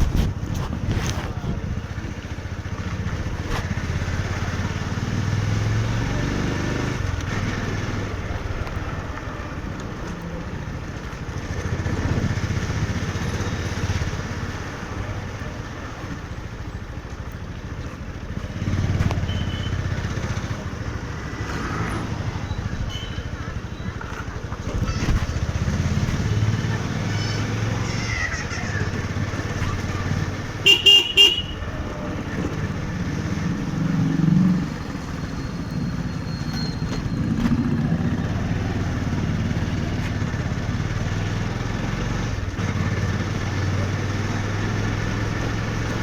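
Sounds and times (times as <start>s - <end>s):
motorcycle engine accelerating: 0.0s - 16.9s, 17.6s - 22.8s, 23.6s - 27.8s, 28.8s - 46.0s.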